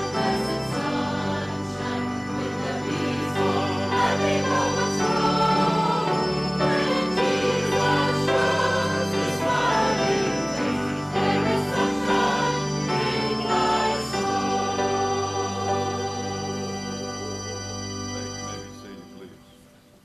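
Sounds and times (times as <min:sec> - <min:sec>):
choir singing a hymn: 0:00.0 - 0:18.8
keyboard accompaniment: 0:00.0 - 0:20.0.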